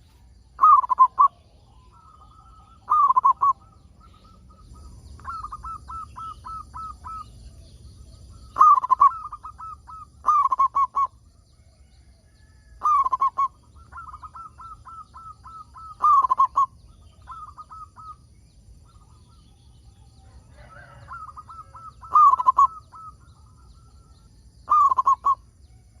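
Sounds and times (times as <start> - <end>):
doves cooing: 0.0 - 25.6.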